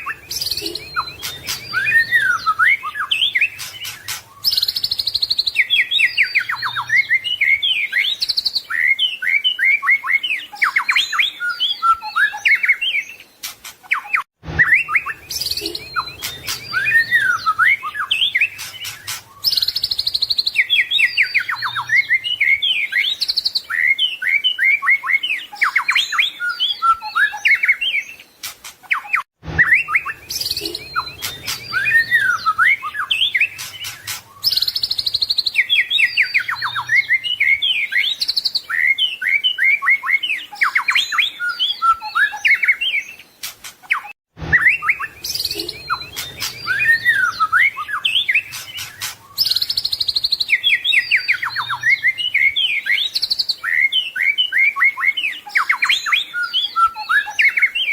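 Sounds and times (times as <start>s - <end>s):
songbird singing whistles and trills: 0.0s - 57.9s.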